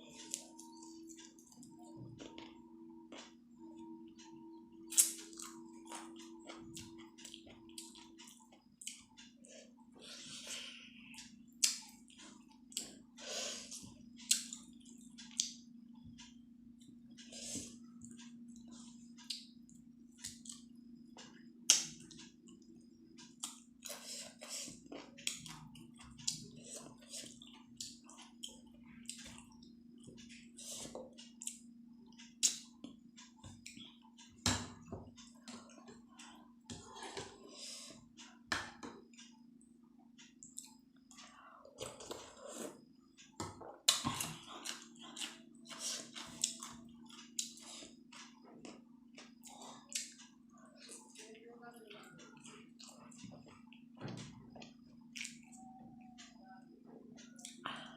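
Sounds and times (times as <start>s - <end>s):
person chewing with wet mouth sounds: 0.0s - 39.4s, 40.2s - 57.9s
faint steady hum: 0.0s - 57.9s.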